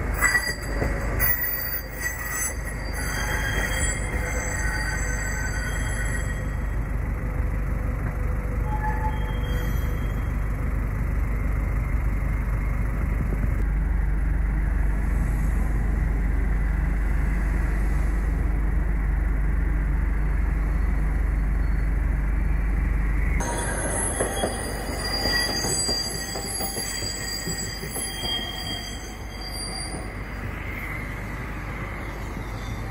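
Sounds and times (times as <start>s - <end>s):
electric tram passing: 0.0s - 32.9s.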